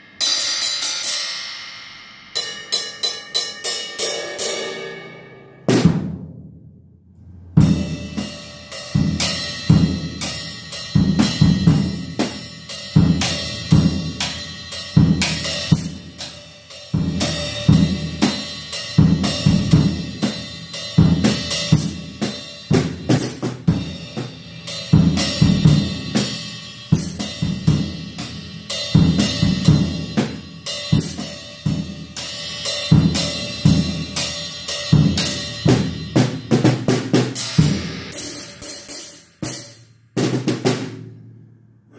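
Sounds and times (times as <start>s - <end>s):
cymbal crashes: 0.0s - 6.1s, 7.2s - 36.5s
drum kit groove: 0.0s - 6.5s, 7.3s - 41.2s.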